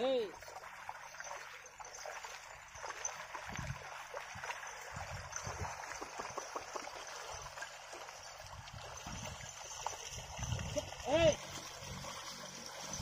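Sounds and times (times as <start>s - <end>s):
splashes and squelches in mud: 0.0s - 13.0s
water trickling: 0.0s - 13.0s.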